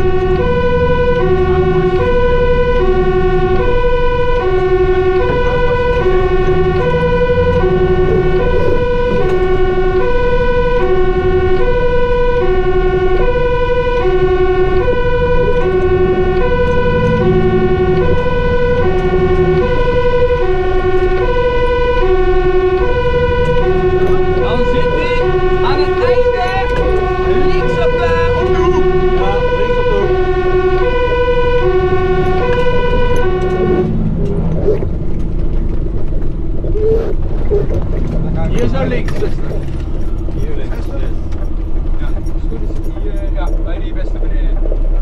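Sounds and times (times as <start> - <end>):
truck engine rumble: 0.0 - 45.0
two-tone fire engine siren: 0.0 - 45.0.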